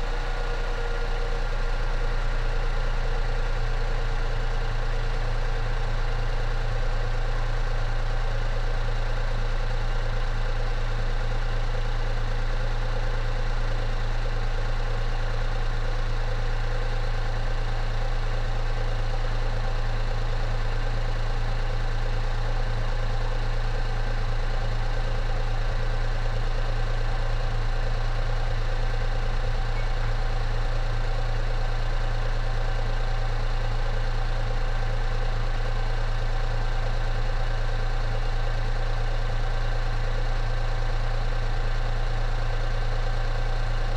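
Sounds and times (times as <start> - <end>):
car engine idling: 4.0 - 43.9.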